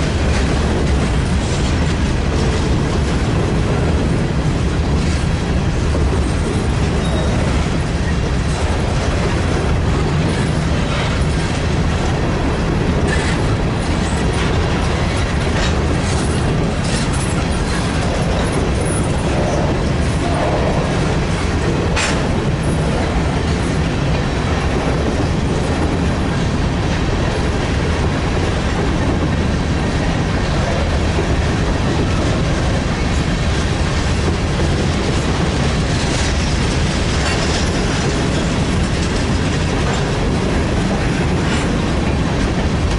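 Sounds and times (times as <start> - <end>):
freight train rumbling past: 0.0 - 42.9
wheels clicking over rail joints: 0.0 - 42.9.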